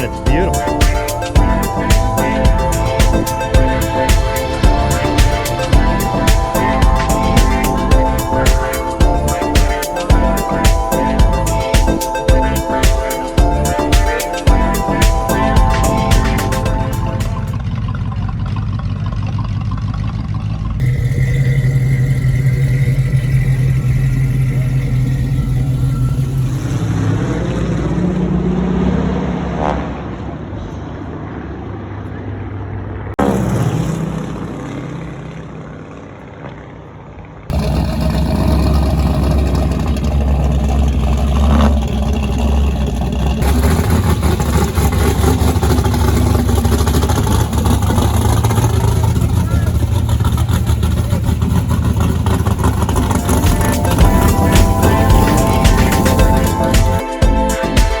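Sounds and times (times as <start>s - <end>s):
engines running: 0.0s - 58.0s.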